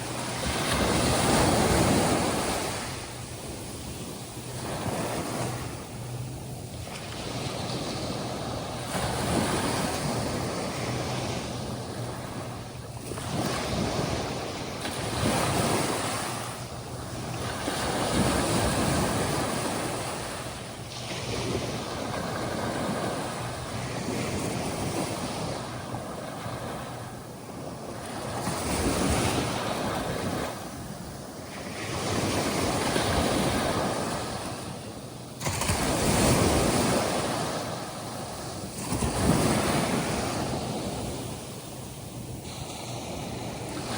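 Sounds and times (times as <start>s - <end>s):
surf washing onto sandy beach: 6.7s - 43.9s.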